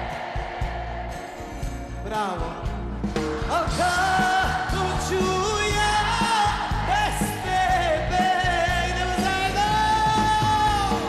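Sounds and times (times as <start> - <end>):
folk-pop band music: 0.0 - 11.0.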